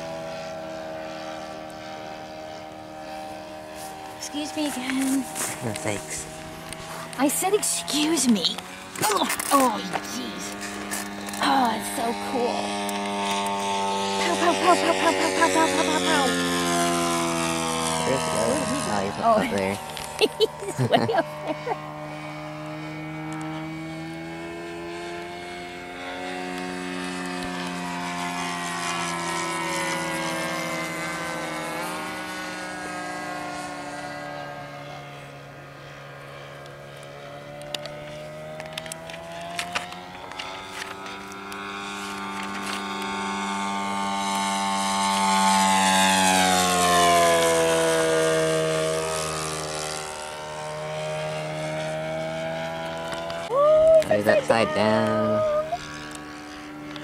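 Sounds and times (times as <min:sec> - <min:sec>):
model airplane engine droning: 0:00.0 - 0:57.0.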